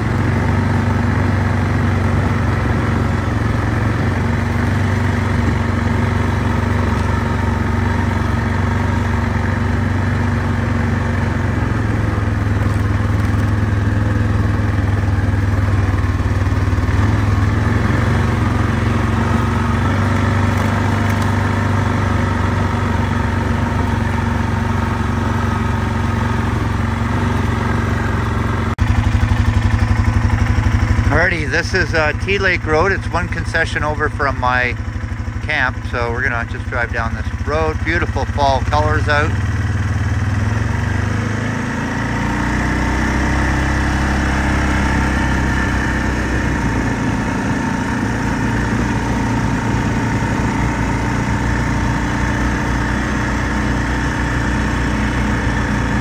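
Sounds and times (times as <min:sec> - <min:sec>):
rumbling road noise: 0:00.0 - 0:56.0
vehicle engine running: 0:00.0 - 0:56.0.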